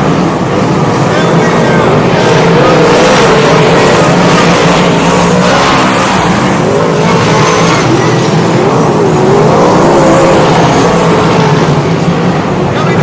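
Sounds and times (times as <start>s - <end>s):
race car engines racing: 0.0s - 13.0s.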